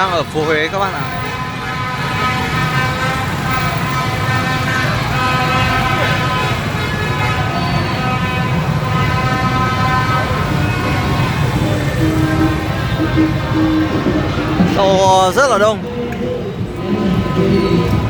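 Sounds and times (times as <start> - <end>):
car horns honking: 0.0 - 18.0.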